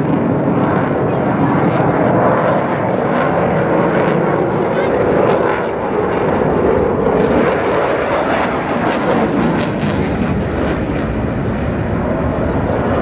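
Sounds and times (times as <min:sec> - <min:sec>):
jet engine roar with crackles: 0:00.0 - 0:13.0.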